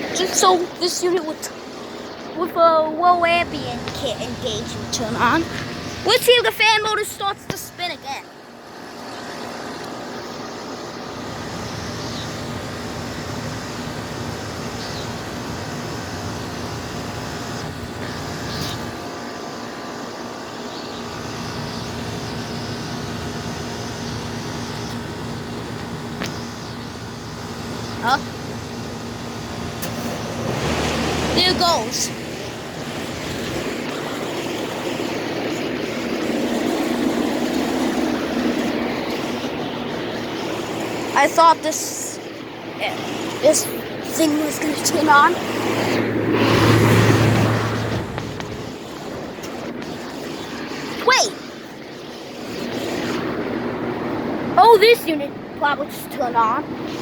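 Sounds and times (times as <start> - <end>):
air conditioner mechanical hum: 0.0 - 57.0
rush of fan air: 0.0 - 57.0.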